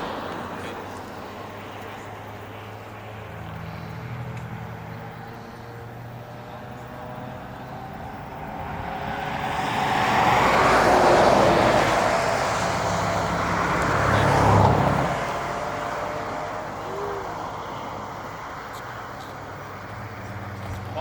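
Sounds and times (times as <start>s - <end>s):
car driving past: 0.0s - 21.0s.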